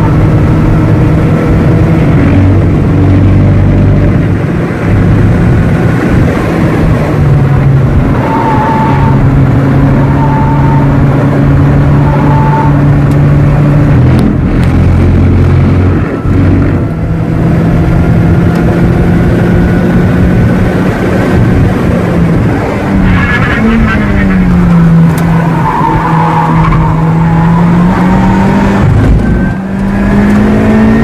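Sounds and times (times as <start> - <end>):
sports car engine from cabin: 0.0 - 31.0.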